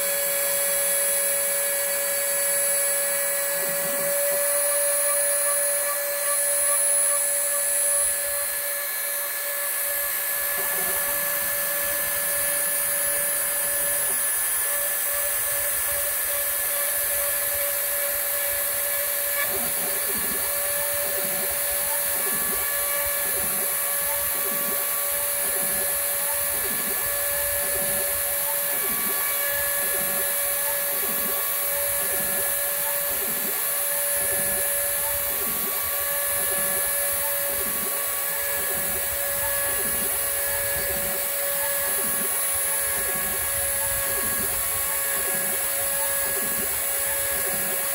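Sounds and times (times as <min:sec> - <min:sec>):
rotary tool high-pitched whine: 0:00.0 - 0:47.9.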